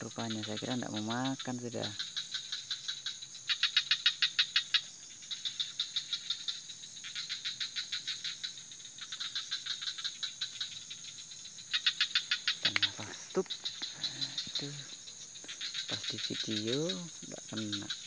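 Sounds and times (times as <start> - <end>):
insects droning: 0.0 - 18.0
rapid pulsed insect calls: 0.0 - 18.0.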